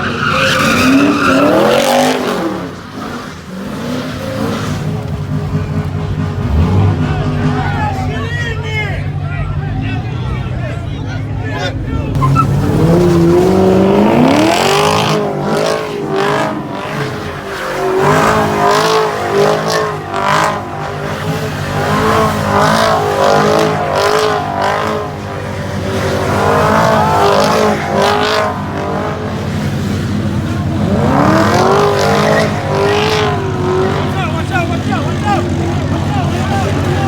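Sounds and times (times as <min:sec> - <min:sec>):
tyres squealing: 0:00.0 - 0:04.9, 0:12.0 - 0:37.0
car engine revving: 0:00.0 - 0:37.0.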